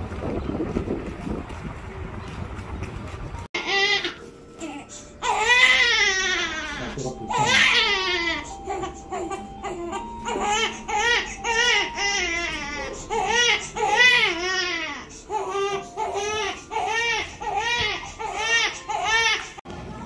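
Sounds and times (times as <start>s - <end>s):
baby crying: 3.6s - 19.6s.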